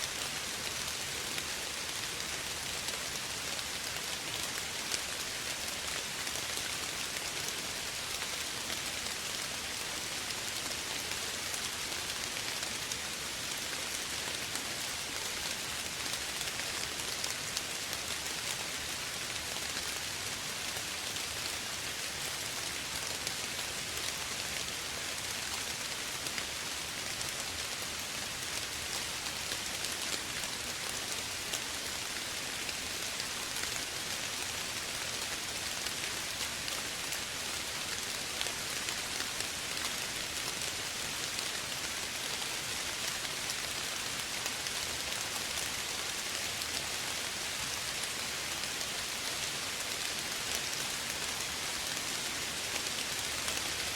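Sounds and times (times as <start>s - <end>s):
light rain pattering: 0.0s - 53.9s.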